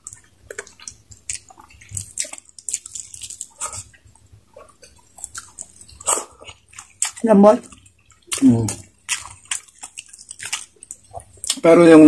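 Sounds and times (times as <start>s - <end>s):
wet chewing and mouth clicks: 0.0s - 12.0s.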